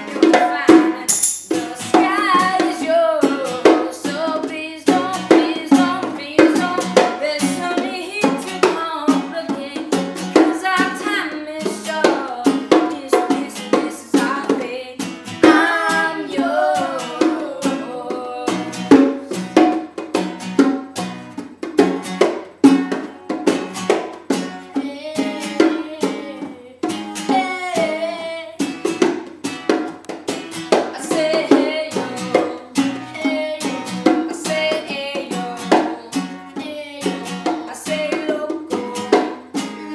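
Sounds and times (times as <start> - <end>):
person singing: 0.0 - 19.4, 24.7 - 28.7, 30.8 - 39.9
acoustic strummed chords: 0.0 - 39.9.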